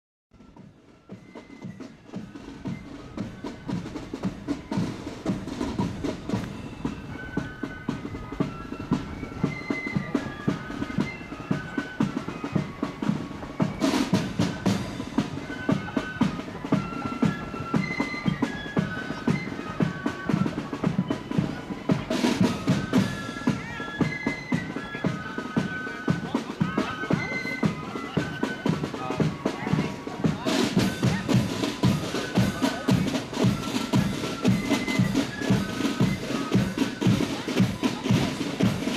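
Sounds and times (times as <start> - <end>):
flute and drum band playing: 0.4 - 38.9.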